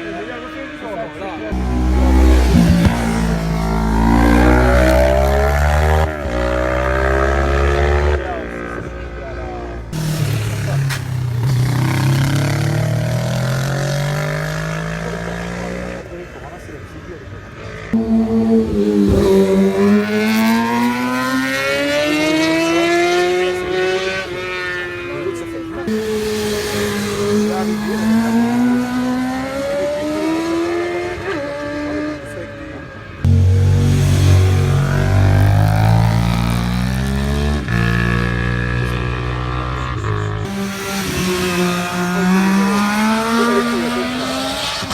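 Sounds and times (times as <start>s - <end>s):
racing motorcycle engine accelerating: 1.5s - 16.1s, 17.8s - 32.3s, 33.2s - 44.9s.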